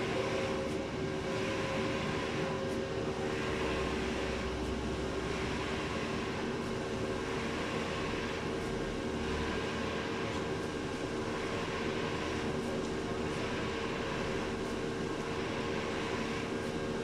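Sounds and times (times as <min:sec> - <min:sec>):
printer machine hum: 0:00.0 - 0:17.0.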